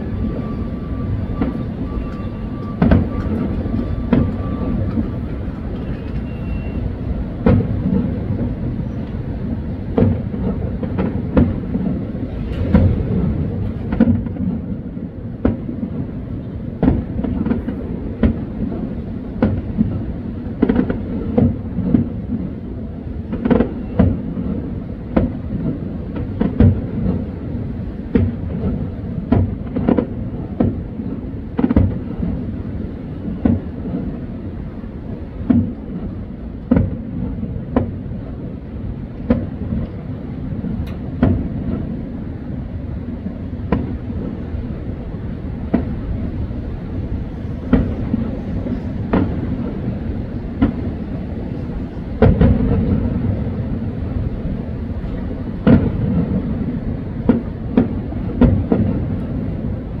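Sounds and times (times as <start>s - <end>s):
fireworks bangs: 0.0s - 9.0s, 9.9s - 59.9s.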